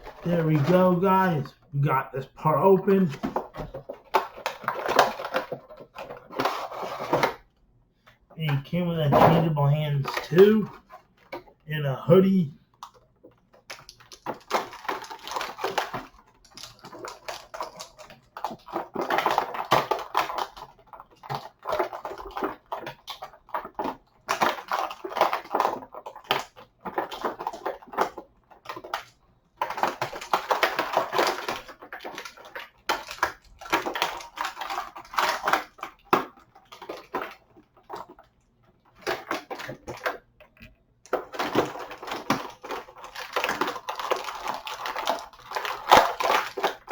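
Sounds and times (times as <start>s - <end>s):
plastic and cardboard packaging crinkling: 0.0s - 7.5s, 12.2s - 46.9s.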